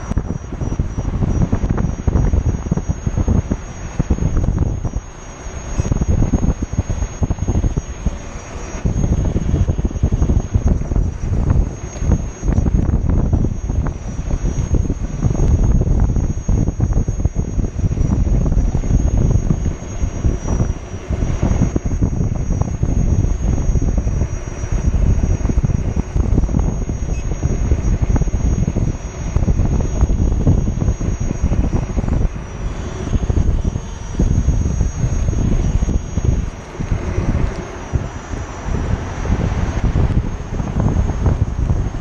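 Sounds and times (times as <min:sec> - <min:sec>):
thin high whine: 0:00.0 - 0:42.0
tyre road noise on asphalt: 0:00.0 - 0:42.0
wind buffeting microphone: 0:00.0 - 0:42.0.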